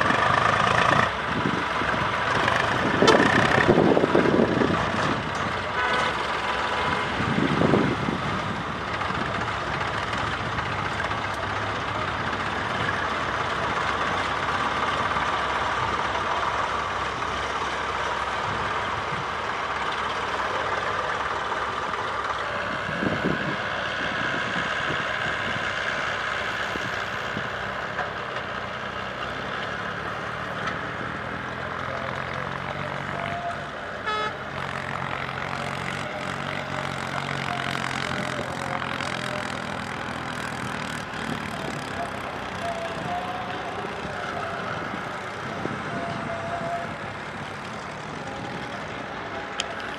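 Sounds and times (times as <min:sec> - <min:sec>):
tractor engine running: 0:00.0 - 0:49.9
truck driving by: 0:00.0 - 0:49.9.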